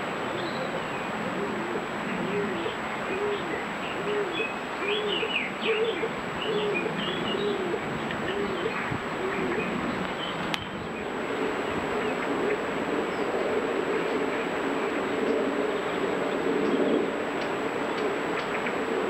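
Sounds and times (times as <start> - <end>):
pigeon cooing: 0.0 - 19.0.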